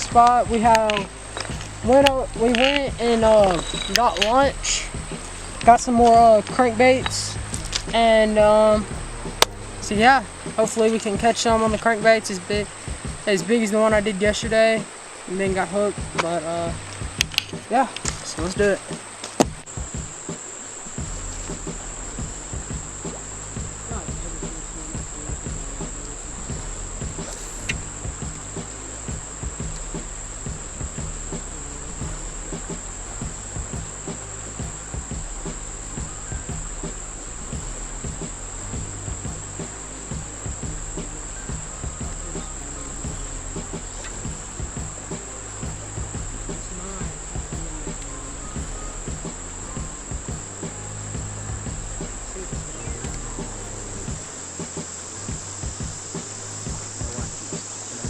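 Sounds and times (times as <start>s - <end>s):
insects trilling: 0.0s - 58.0s
low uneven rumble: 0.0s - 58.0s.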